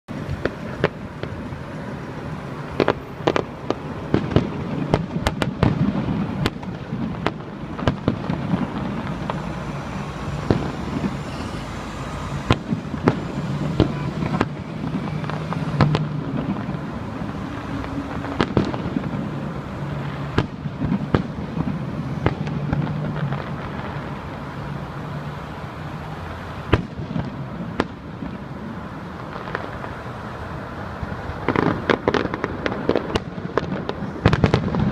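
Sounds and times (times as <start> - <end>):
fireworks bangs: 0.1 - 34.9.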